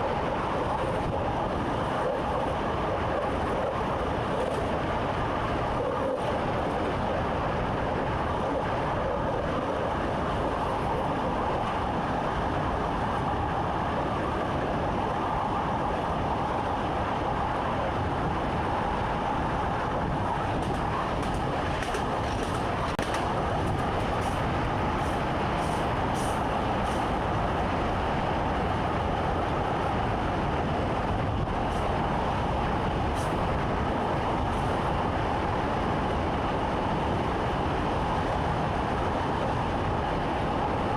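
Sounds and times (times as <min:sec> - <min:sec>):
train rumble from cab: 0:00.0 - 0:40.9.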